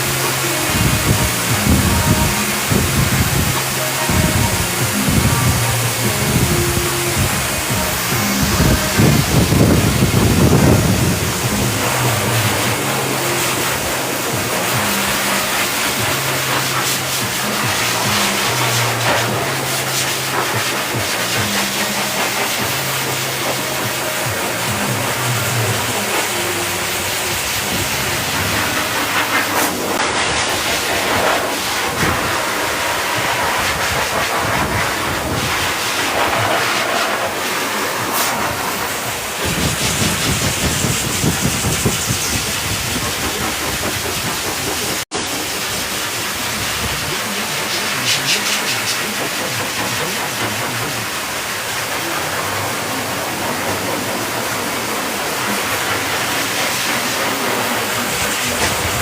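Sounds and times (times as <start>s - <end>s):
grooming dryer blowing air: 0.0s - 59.0s.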